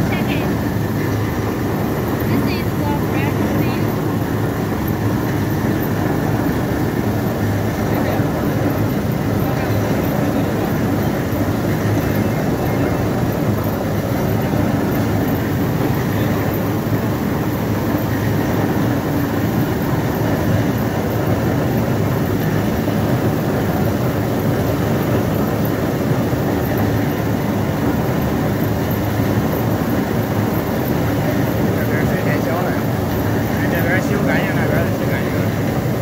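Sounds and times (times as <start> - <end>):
potato washing machine humming: 0.0 - 36.0.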